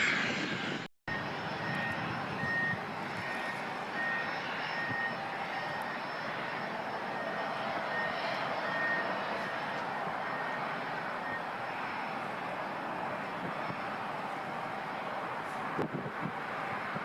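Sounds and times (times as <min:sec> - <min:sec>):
aircraft engines running: 0:00.0 - 0:17.0
reversing alarm beeping: 0:01.1 - 0:14.8.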